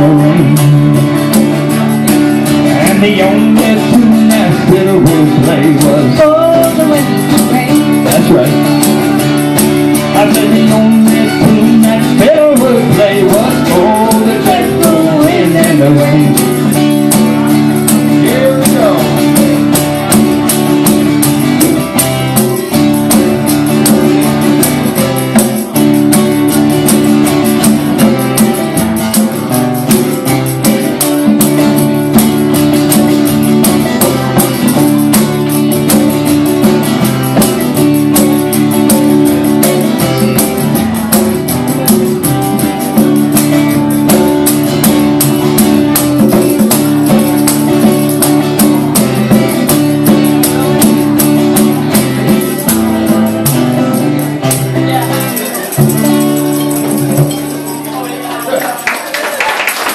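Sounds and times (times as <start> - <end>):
strummed acoustic guitar: 0.0 - 59.2.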